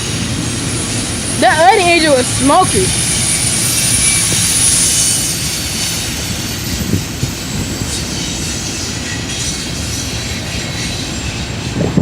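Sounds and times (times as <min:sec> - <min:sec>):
high wheel squeal: 0:00.0 - 0:11.9
freight train rumbling on rails: 0:00.0 - 0:12.0.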